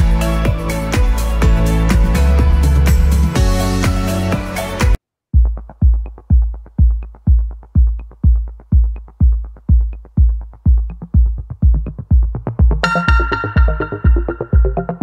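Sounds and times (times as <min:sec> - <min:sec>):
electronic music: 0:00.0 - 0:15.0
kick-drum beat: 0:00.0 - 0:15.0.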